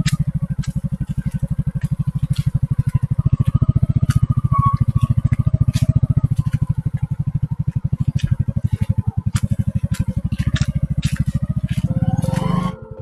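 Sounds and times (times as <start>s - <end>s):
bike rattles and knocks: 0.0s - 12.8s
motorcycle engine chugging: 0.0s - 13.0s.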